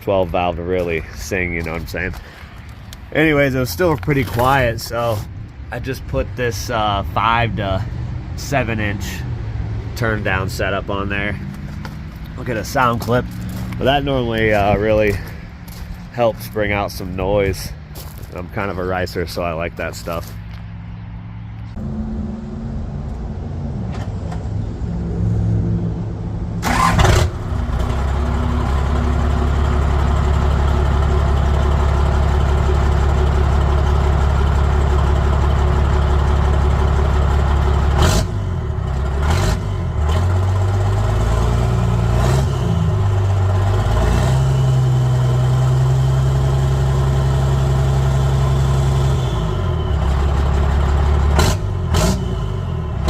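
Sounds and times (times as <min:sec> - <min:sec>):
diesel engine revving: 0:00.8 - 0:18.8, 0:20.8 - 0:53.0.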